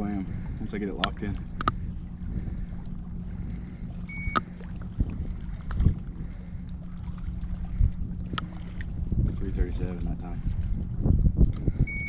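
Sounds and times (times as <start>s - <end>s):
boat low hum: 0.0s - 12.0s.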